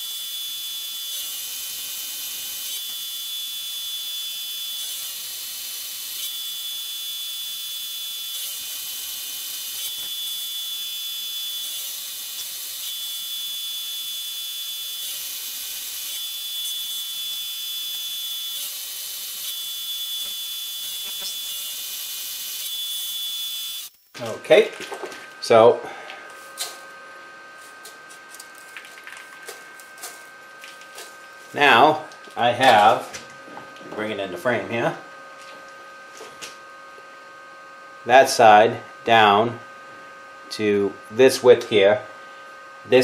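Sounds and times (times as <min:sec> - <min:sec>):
milling spindle whine: 0:00.0 - 0:39.6.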